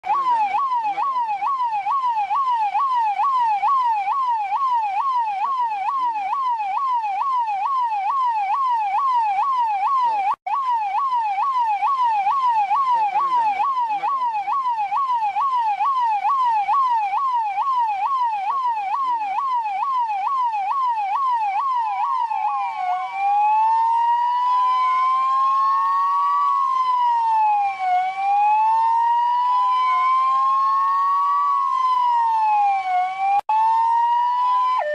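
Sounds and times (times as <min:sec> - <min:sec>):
police siren: 0:00.0 - 0:34.9.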